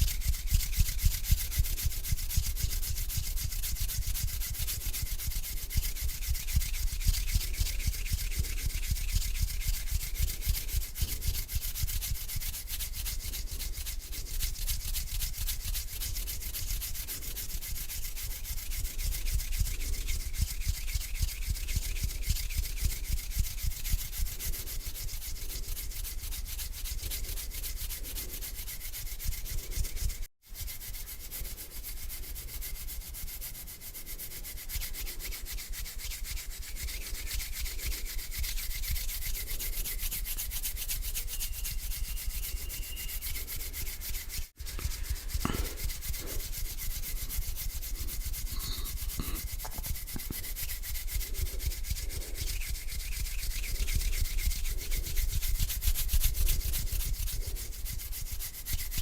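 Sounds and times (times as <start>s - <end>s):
hands rubbing together: 0.0s - 59.0s.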